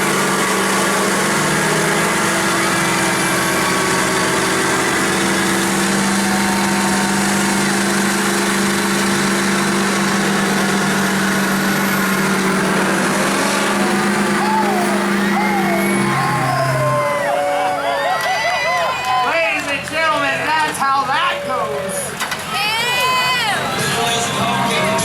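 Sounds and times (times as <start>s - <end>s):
truck engines at high revs: 0.0s - 25.0s.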